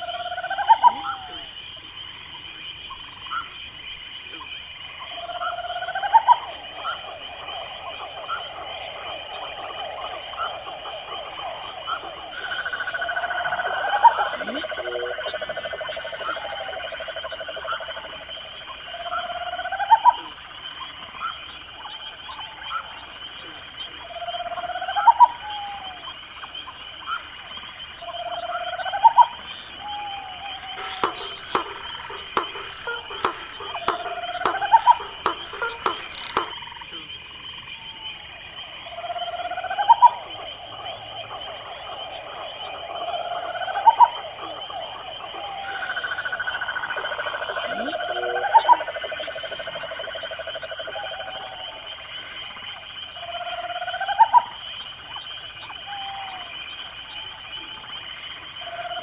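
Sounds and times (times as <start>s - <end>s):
crickets shrilling: 0.0s - 59.0s
frogs trilling: 0.0s - 59.0s.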